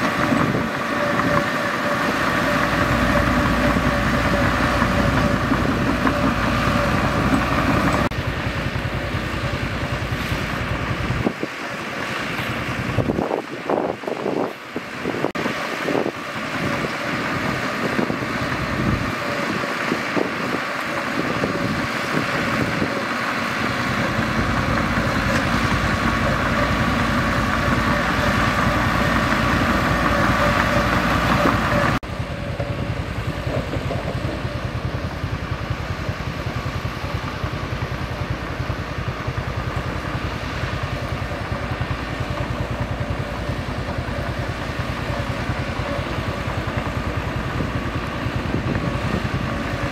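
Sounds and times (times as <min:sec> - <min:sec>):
bulldozer diesel engine running: 0:00.0 - 0:49.9.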